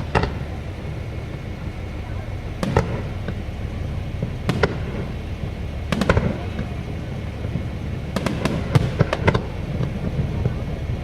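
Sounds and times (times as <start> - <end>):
fireworks popping: 0.0 - 11.0
low background rumble: 0.0 - 11.0.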